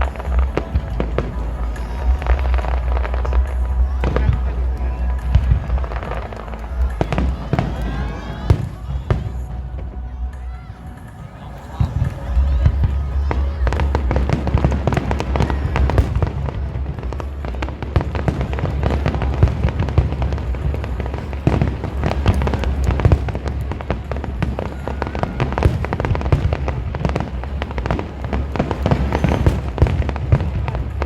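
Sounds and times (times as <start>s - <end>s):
fireworks crackling and banging: 0.0s - 31.0s
low rumble: 0.0s - 31.0s.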